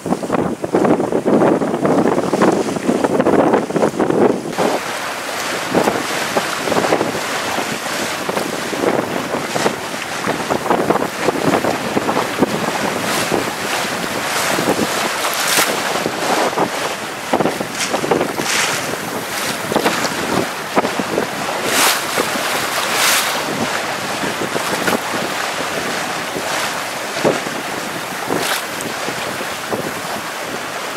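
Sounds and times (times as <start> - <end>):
waves sloshing and splashing: 0.0 - 30.9
wind buffeting microphone: 0.0 - 30.9.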